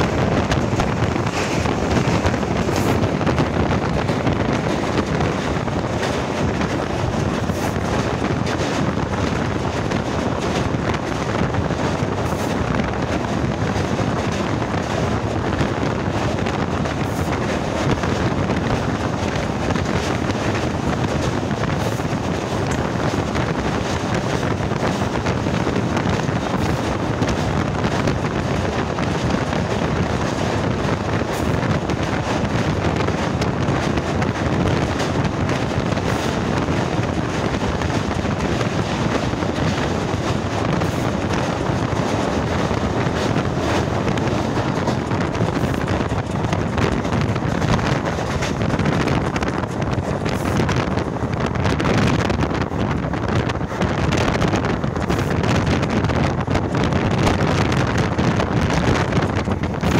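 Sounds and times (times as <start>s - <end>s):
train running noise: 0.0s - 59.9s
wind buffeting microphone: 0.0s - 59.9s.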